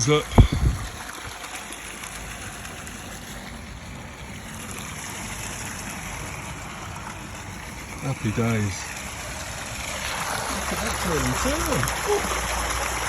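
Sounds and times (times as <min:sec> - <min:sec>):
water pouring into pond: 0:00.0 - 0:13.0.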